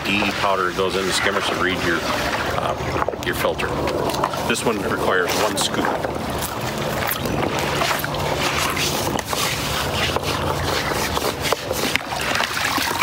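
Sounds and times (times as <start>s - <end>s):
pool circulation system humming: 0.0s - 13.0s
water drawn into skimmer: 0.0s - 13.0s.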